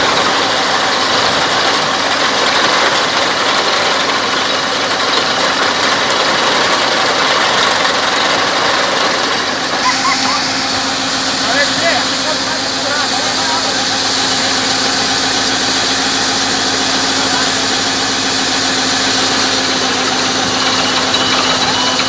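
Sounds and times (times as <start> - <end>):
drilling rig engine running: 0.0 - 22.0.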